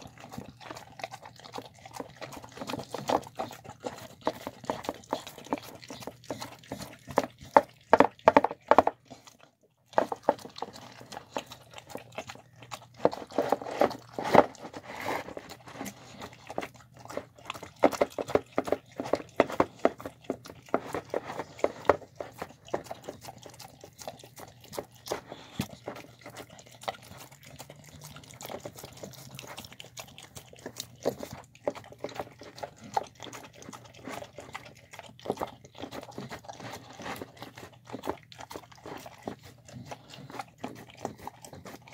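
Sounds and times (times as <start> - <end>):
dog chewing and licking wet food: 0.0 - 41.9.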